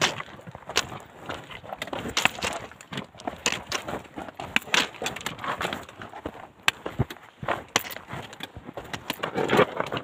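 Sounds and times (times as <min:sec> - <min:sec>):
stones clattering: 0:00.0 - 0:06.0, 0:06.6 - 0:10.0
footsteps crunching on gravel: 0:00.0 - 0:10.0.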